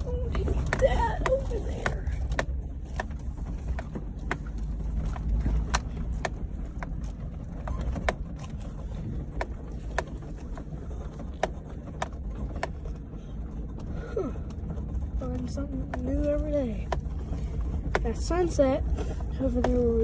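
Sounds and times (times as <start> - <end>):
vehicle body rattles and knocks: 0.0 - 20.0
vehicle rumbling over rough ground: 0.0 - 20.0.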